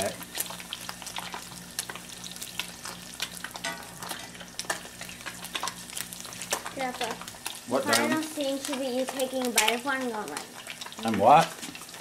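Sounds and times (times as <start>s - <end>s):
fish sizzling in hot oil: 0.0s - 12.0s
metal spatula turning fish: 0.4s - 12.0s.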